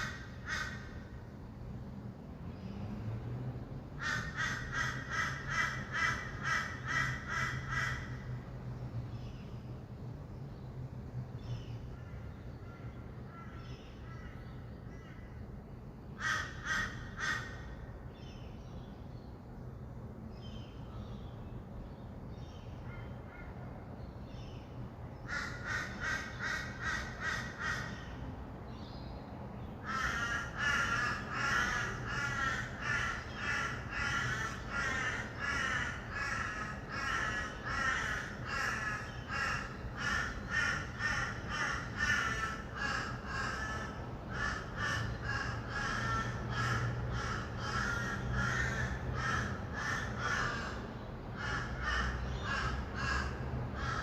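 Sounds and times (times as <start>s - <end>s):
distant city traffic hum: 0.0s - 54.0s.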